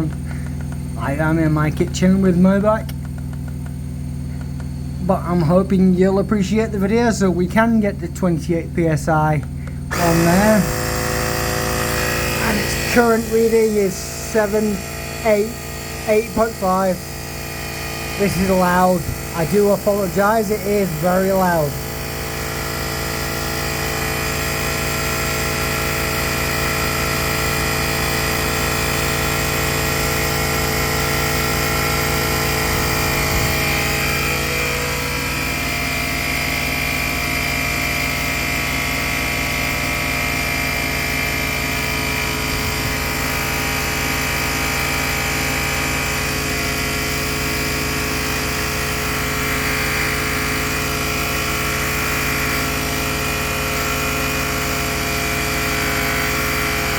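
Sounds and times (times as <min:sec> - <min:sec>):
portable tyre inflator running: 0:00.0 - 0:56.9.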